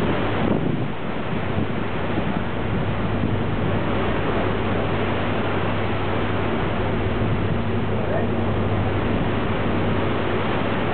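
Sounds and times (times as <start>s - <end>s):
sea water rushing: 0.0s - 10.9s
ferry engines humming: 1.8s - 10.9s.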